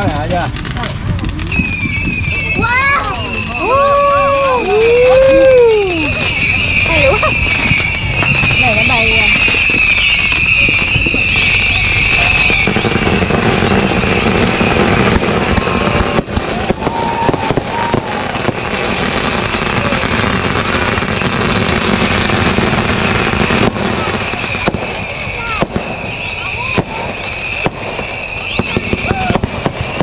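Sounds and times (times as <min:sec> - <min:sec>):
fireworks bangs and pops: 0:00.0 - 0:30.0.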